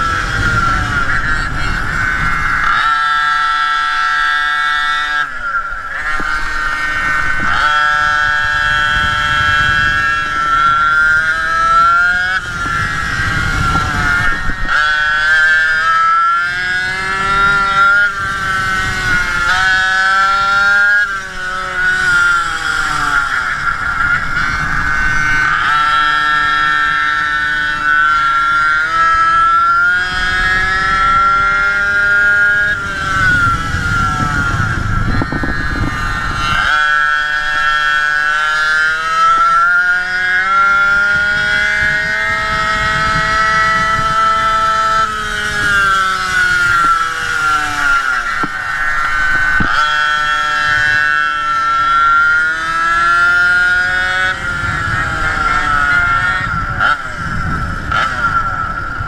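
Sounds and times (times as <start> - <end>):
scooter engine at high revs: 0.0 - 59.0
wind rumble on microphone: 0.0 - 59.0.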